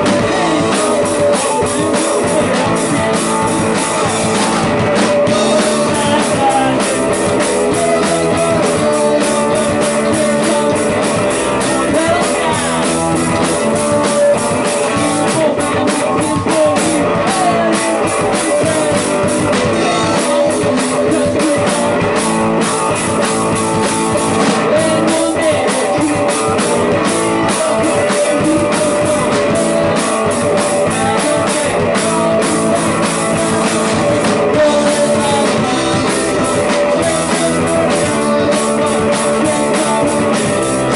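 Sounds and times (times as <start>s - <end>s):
drum kit beat: 0.0s - 40.9s
loud rock band music: 0.0s - 40.9s.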